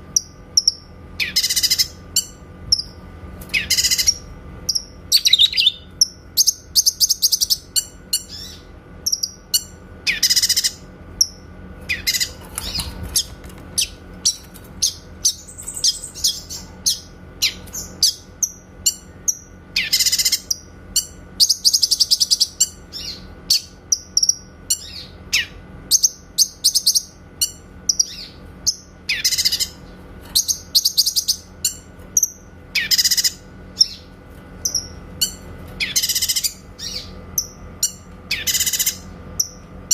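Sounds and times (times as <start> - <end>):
bird singing trilled calls: 0.1 - 39.9.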